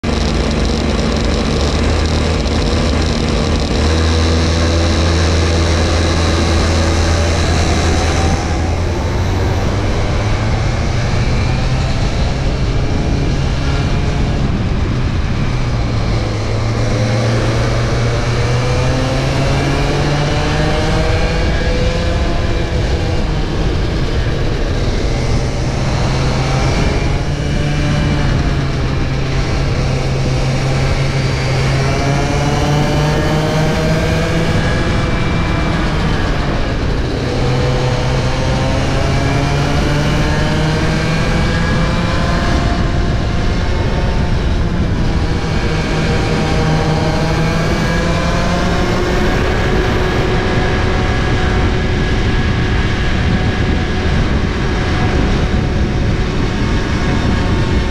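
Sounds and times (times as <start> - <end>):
kart engines revving: 0.0 - 57.9.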